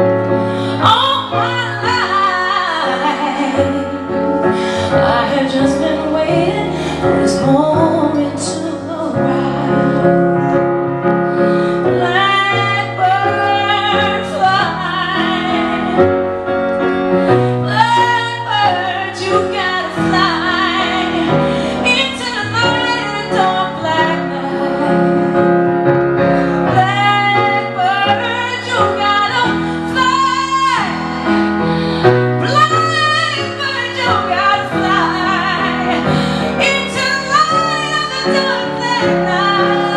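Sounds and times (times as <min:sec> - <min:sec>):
woman singing: 0:00.0 - 0:10.5, 0:11.8 - 0:16.2, 0:17.3 - 0:25.6, 0:26.6 - 0:39.9
instrumental accompaniment: 0:00.0 - 0:39.9.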